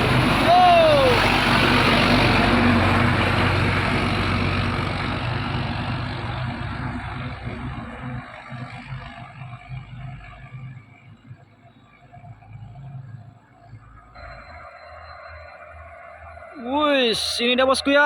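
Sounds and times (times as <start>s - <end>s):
diesel truck passing: 0.0s - 18.0s.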